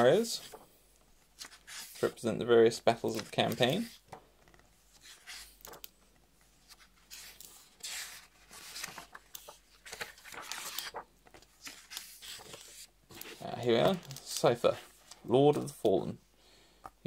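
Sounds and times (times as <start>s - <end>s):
book pages flipping: 0.0s - 2.2s, 2.9s - 15.7s.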